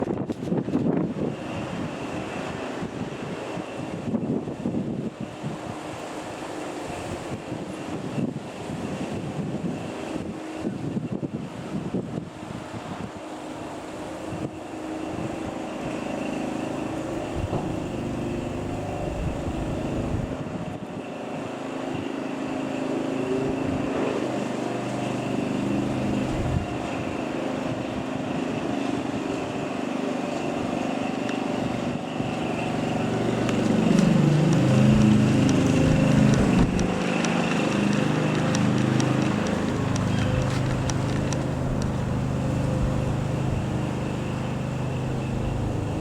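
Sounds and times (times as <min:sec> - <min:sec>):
propeller aircraft engine: 0:00.0 - 0:46.0.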